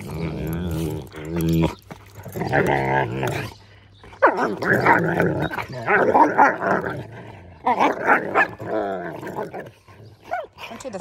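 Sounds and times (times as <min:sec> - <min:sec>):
dogs growling while play-fighting: 0:00.0 - 0:11.0.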